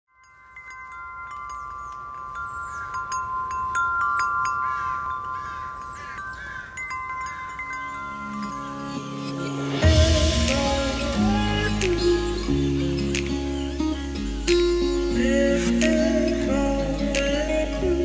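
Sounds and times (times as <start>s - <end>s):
metal tube wind chimes ringing: 0.1s - 18.0s.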